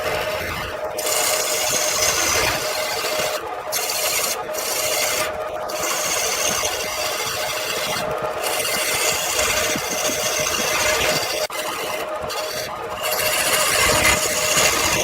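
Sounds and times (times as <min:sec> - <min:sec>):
tool rasping on spinning wood: 0:00.0 - 0:15.0
wood lathe hum: 0:00.0 - 0:15.0.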